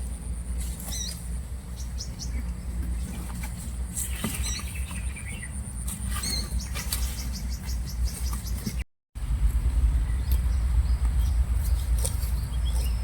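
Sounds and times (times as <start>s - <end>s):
birds chirping: 0.0s - 8.8s, 9.8s - 13.0s
steady low rumble: 0.0s - 13.0s.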